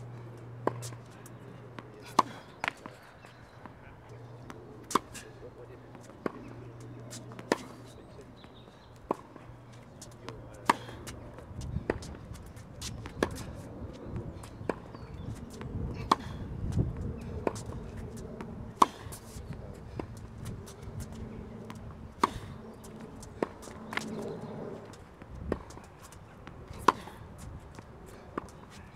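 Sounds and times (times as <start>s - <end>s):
tennis ball bouncing on hard court: 0.5s - 5.3s, 5.9s - 28.8s
tennis ball struck by rackets: 0.6s - 5.3s, 5.9s - 12.2s, 14.4s - 16.5s, 17.4s - 28.8s.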